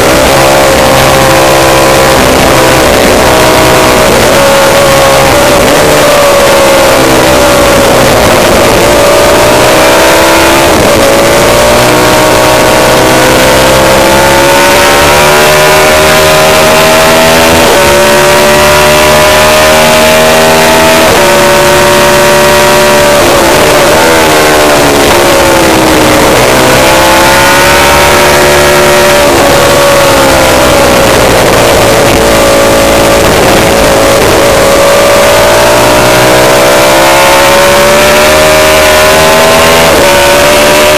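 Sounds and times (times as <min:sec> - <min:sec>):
racing motorcycle engine: 0:00.0 - 0:40.9.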